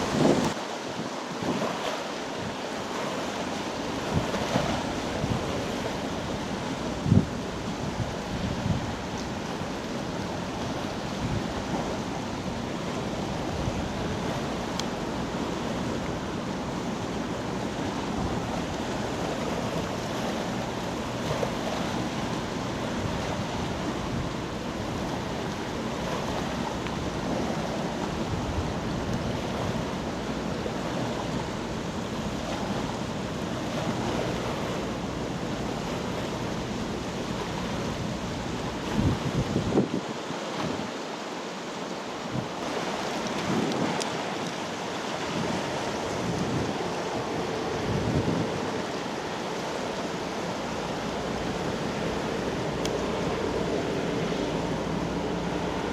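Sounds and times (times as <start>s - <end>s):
rushing water: 0.0s - 55.9s
wind buffeting microphone: 4.0s - 40.9s, 42.3s - 55.9s.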